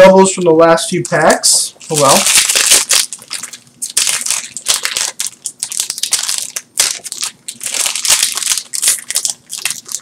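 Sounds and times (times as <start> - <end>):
foil wrapper crinkling: 1.8 - 10.0.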